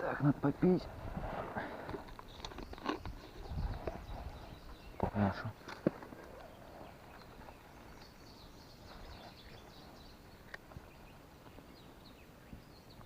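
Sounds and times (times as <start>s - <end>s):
faint songbirds singing: 0.0s - 13.0s.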